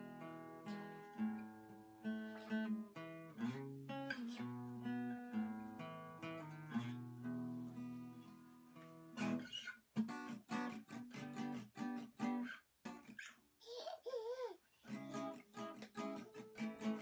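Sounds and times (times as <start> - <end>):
acoustic guitar strumming: 0.0 - 13.2, 14.9 - 17.0.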